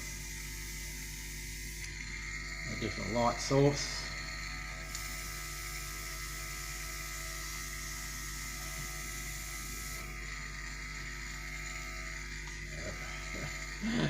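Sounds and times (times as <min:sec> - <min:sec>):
airbrush hissing: 0:00.0 - 0:14.0
compressor motor hum: 0:00.0 - 0:14.0.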